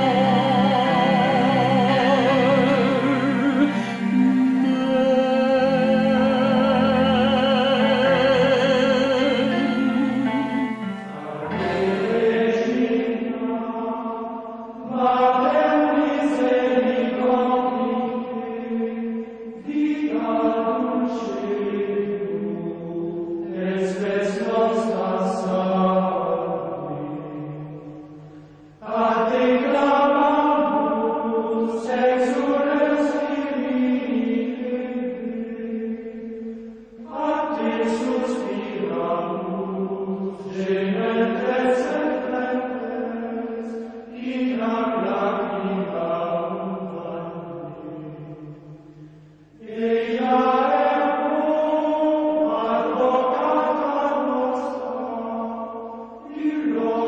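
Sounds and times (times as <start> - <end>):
slow chant-like singing: 0.0 - 57.0.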